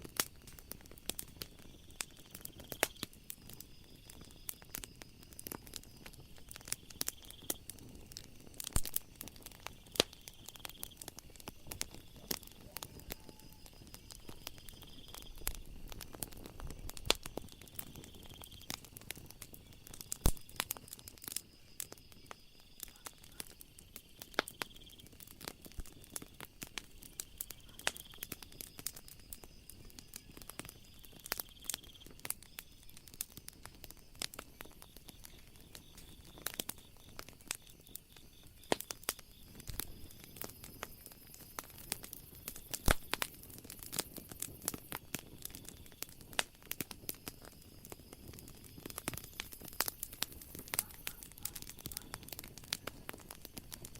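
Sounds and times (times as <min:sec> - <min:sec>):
night insects chirring: 0:00.0 - 0:53.9
wood fire crackling: 0:00.0 - 0:53.9.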